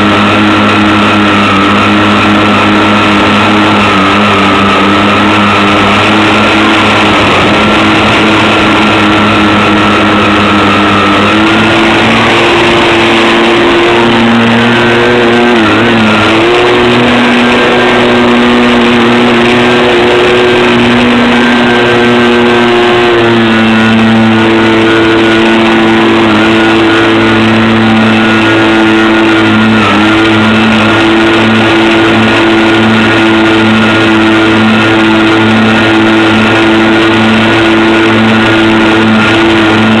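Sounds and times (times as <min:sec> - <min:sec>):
electric motors whining: 0:00.0 - 0:40.0.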